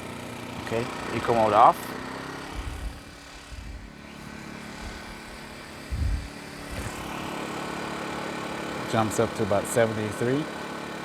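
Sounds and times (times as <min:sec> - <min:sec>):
generator humming: 0:00.0 - 0:11.0.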